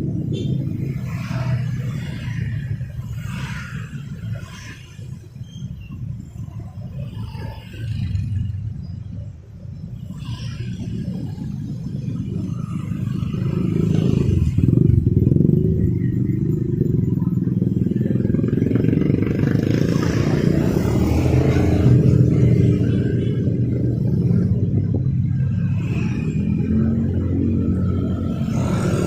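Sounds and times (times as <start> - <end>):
car engines passing: 0.0 - 29.0
motorbike engines passing: 0.0 - 29.0.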